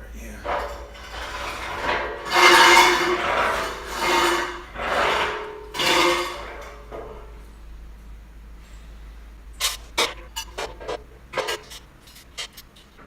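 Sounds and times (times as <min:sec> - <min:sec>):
steel parts scraping: 0:00.2 - 0:07.4, 0:09.6 - 0:12.9.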